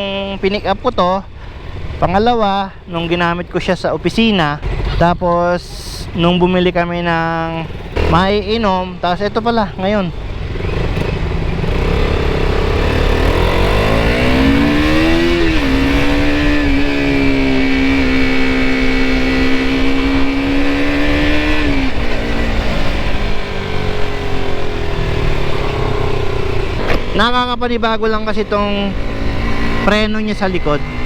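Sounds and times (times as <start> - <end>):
low rumble of road and wind: 0.0 - 31.0
motorcycle engine under throttle: 4.2 - 31.0.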